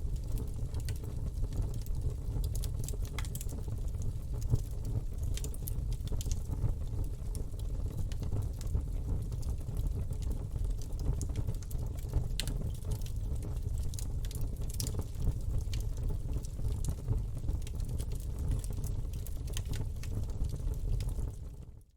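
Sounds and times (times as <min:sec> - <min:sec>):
campfire crackling and popping: 0:00.1 - 0:21.5.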